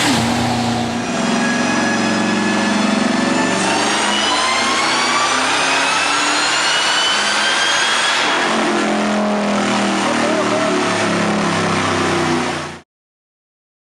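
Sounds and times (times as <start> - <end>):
car engine accelerating hard: 0.0 - 12.8.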